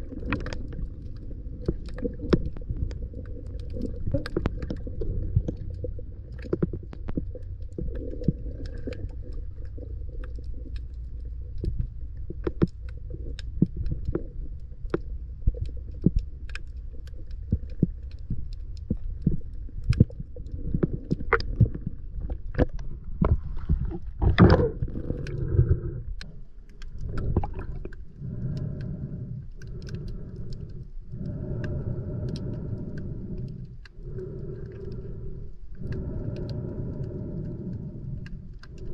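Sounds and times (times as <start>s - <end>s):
sharp underwater clicks: 0.0s - 38.9s
underwater water rumble: 0.0s - 38.9s.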